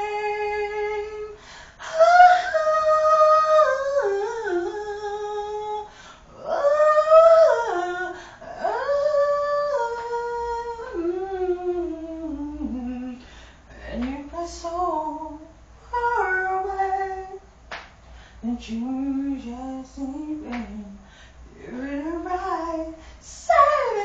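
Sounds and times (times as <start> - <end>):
woman singing a cappella: 0.0 - 17.5, 18.4 - 24.0.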